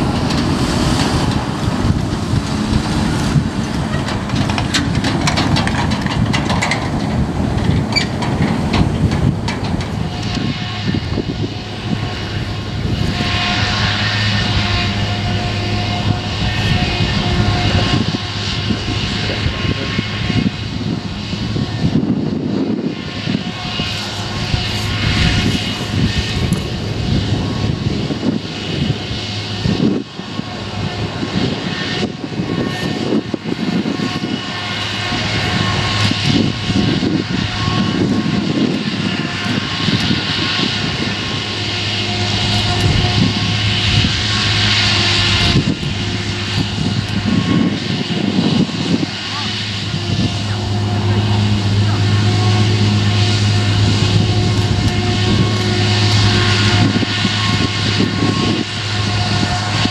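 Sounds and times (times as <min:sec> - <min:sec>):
forage harvester droning: 0:00.0 - 0:59.9
tractor driving: 0:00.0 - 0:59.9.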